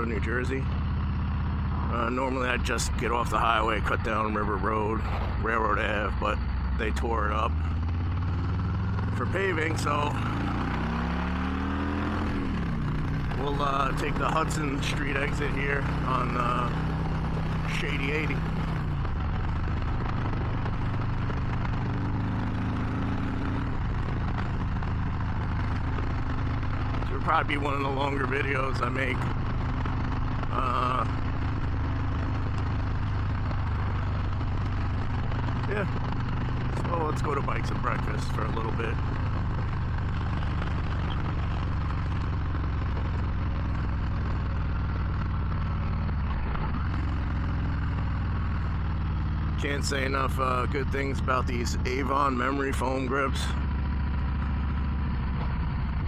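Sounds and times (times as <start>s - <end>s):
motorcycle engine cruising: 0.0s - 56.0s
road noise: 0.0s - 56.0s.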